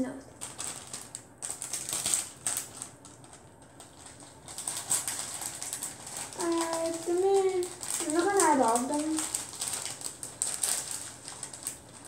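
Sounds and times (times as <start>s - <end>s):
plastic bag crinkling: 0.3s - 12.0s
foam beads rattling: 0.4s - 12.0s.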